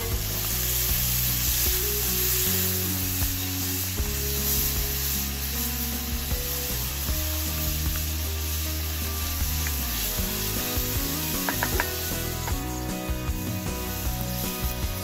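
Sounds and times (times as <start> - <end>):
background music low notes: 0.0 - 15.0
vegetables sizzling in oil: 0.0 - 15.0.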